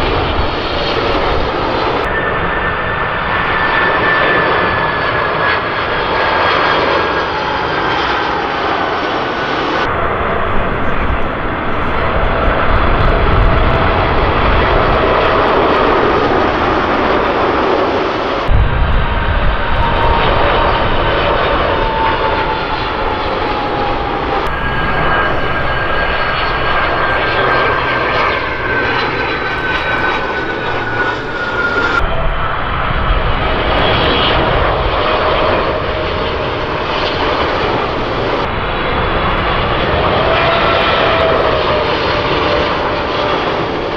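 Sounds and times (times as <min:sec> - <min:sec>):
jet aircraft passing overhead: 0:00.0 - 0:43.9.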